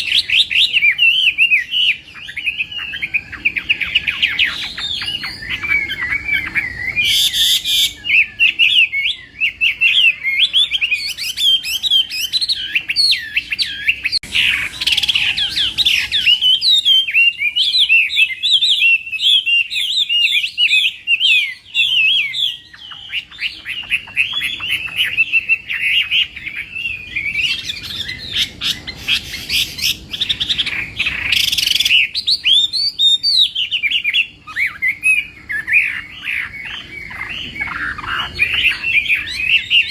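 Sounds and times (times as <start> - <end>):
harsh bird call bursts: 0.0 - 39.9
songbird whistling song: 0.0 - 39.9.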